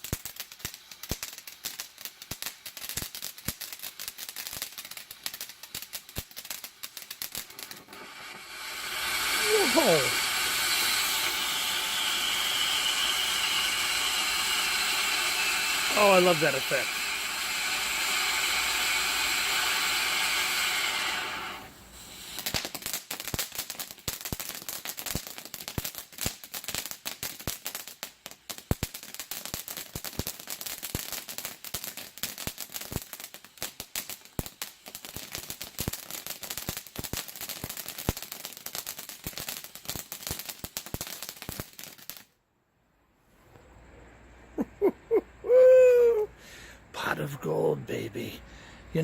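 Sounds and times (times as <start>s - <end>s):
firework fountain hissing: 0.0s - 42.3s, 45.4s - 49.0s
firework crackling pops: 0.0s - 42.4s.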